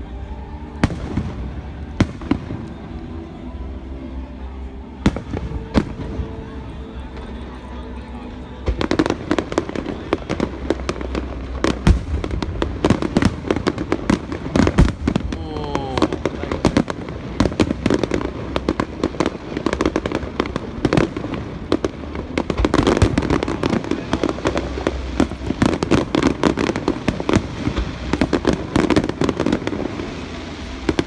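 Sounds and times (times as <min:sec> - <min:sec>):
low rumble: 0:00.0 - 0:31.0
fireworks cracks and bangs: 0:00.7 - 0:03.1, 0:05.0 - 0:07.4, 0:08.2 - 0:31.0.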